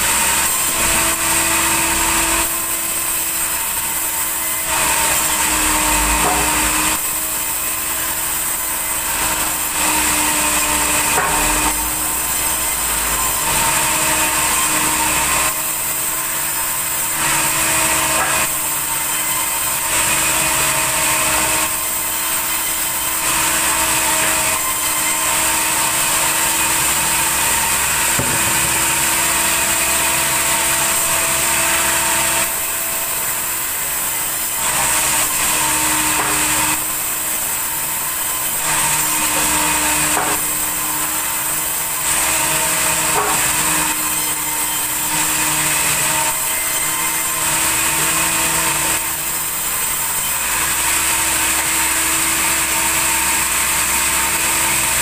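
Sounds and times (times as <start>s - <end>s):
band saw humming: 0.0s - 55.0s.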